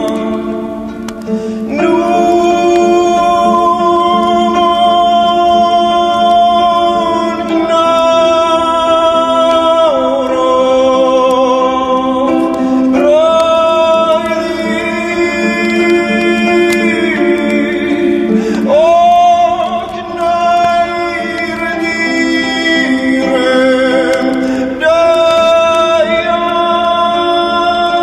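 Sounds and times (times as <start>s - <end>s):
voice singing long notes: 0.0s - 28.0s.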